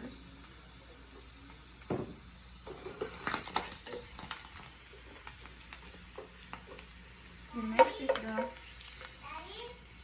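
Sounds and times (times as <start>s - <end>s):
bacon sizzling in a pan: 0.0s - 10.0s.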